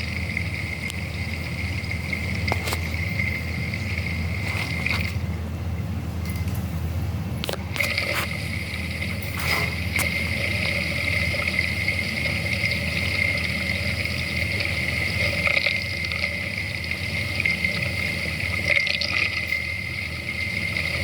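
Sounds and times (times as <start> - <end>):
electric water pump running: 0.0 - 5.8, 7.4 - 21.0
water flowing through pipes: 0.0 - 21.0.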